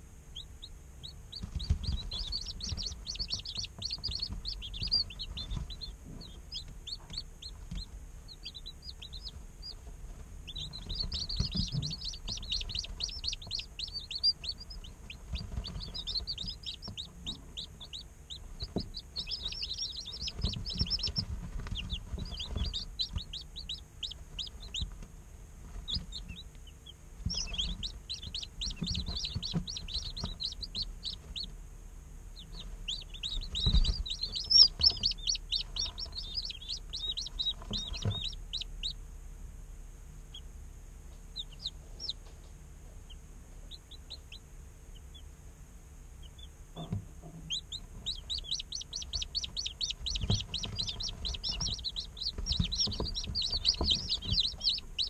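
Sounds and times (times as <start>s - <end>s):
chicks peeping: 0.0s - 55.0s
soft low thumps: 1.0s - 31.5s, 32.4s - 38.8s, 46.7s - 55.0s.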